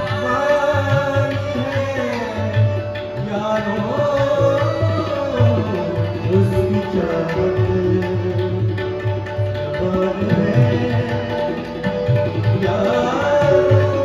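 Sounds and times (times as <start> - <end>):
man singing: 0.0 - 9.0, 9.6 - 14.0
harmonium tones: 0.0 - 14.0
tabla rhythm: 0.0 - 14.0.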